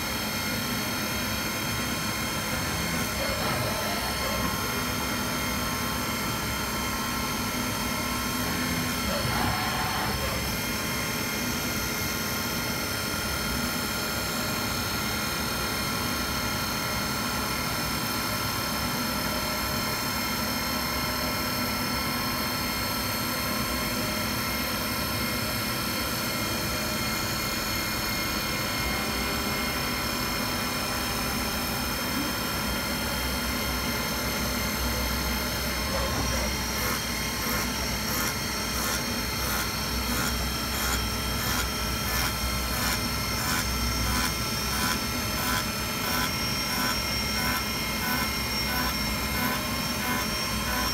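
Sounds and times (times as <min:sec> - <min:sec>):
milling machine whining: 0:00.0 - 0:50.9.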